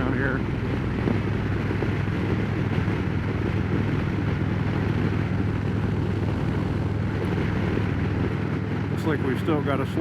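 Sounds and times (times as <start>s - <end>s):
motorcycle engine cruising: 0.0s - 10.0s
wind noise on microphone: 0.0s - 10.0s.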